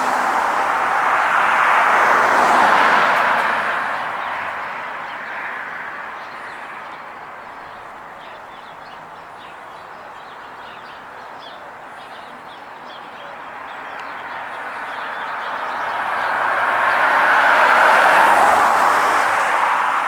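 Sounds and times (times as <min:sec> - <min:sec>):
passing vehicle traffic noise: 0:00.0 - 0:20.0.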